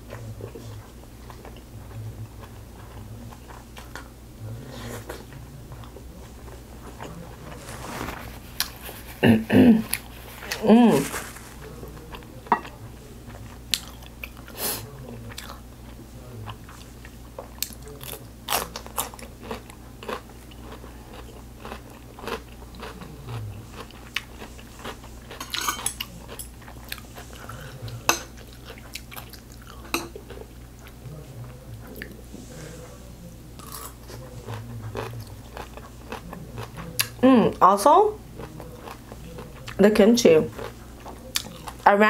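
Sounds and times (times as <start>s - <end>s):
chewing crisp food: 0.0s - 9.2s, 9.8s - 37.2s, 38.2s - 41.8s.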